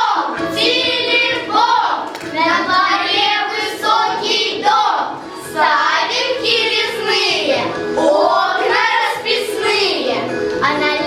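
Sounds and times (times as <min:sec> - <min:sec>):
children singing: 0:00.0 - 0:11.0
music: 0:00.0 - 0:11.0.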